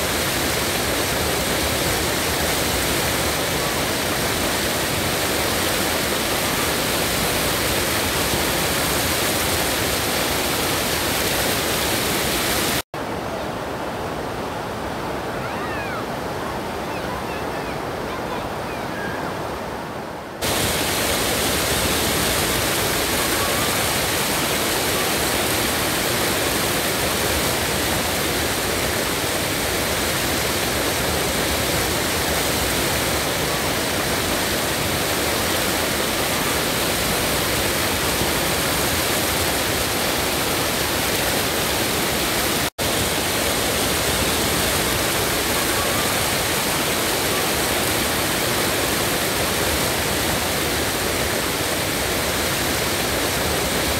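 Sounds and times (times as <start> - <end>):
river water rushing over weir: 0.0 - 53.9.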